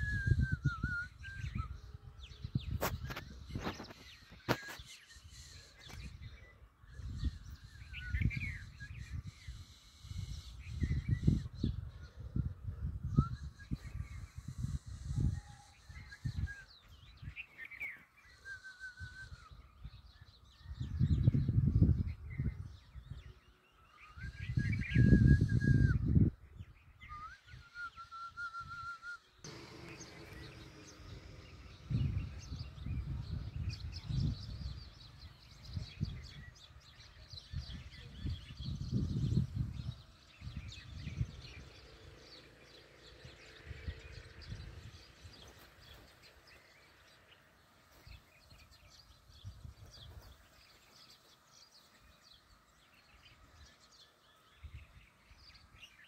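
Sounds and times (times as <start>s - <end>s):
wind buffeting microphone: 0.0s - 17.5s, 19.0s - 23.5s, 24.2s - 27.6s, 29.5s - 56.0s
birds chirping and whistling: 0.0s - 56.0s.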